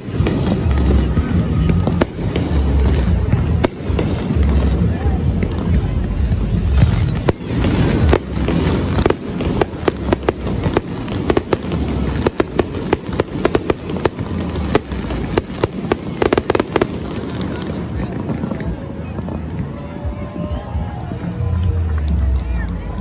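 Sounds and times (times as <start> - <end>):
fireworks booming: 0.0 - 19.7
fireworks crackling and popping: 0.0 - 23.0.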